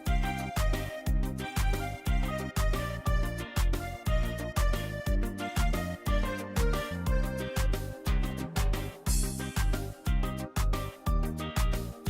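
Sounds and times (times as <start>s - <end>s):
music with steady bass beat: 0.0s - 12.0s.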